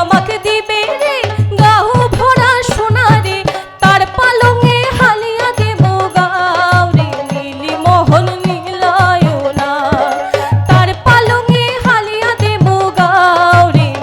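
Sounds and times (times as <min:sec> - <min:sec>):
person singing folk song: 0:00.0 - 0:14.0
steady drum beat: 0:00.0 - 0:14.0.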